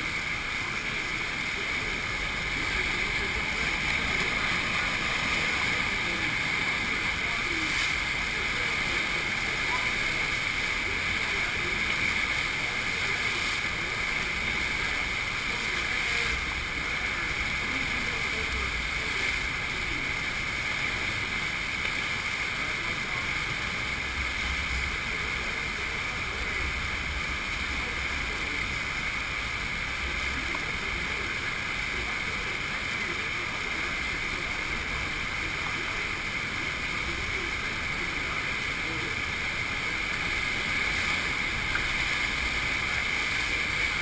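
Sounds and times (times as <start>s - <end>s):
rushing sheet of water: 0.0s - 44.0s.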